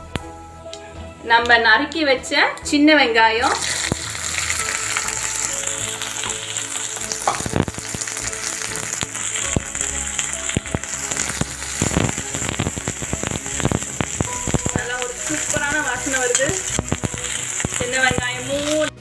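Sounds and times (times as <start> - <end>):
shallots sizzling in oil: 3.4 - 19.0.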